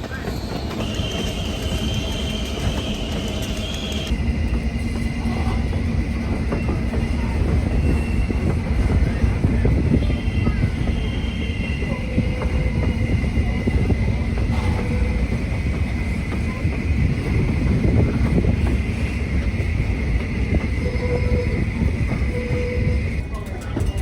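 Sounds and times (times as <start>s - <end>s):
train wheels rumbling on rail: 0.0s - 24.0s
wheels squealing: 0.0s - 24.0s.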